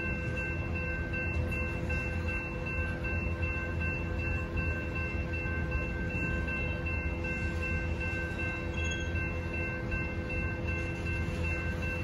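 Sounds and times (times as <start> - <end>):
crossing warning bell ringing: 0.0 - 12.0
train wheels rumbling on rail: 0.0 - 12.0.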